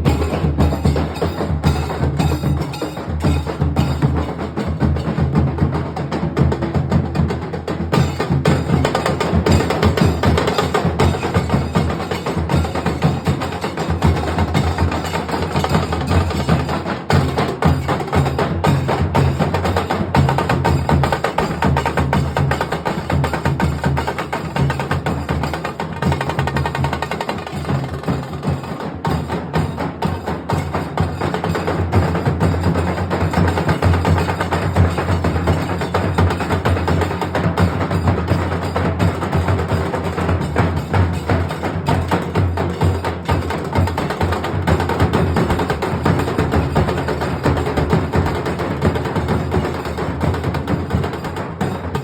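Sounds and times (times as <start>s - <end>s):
dhol drums beaten fast: 0.0s - 52.0s.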